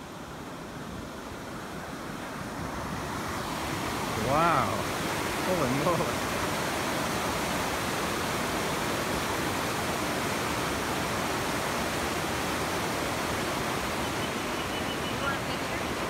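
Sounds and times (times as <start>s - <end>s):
river rushing through rapids: 0.0s - 16.0s.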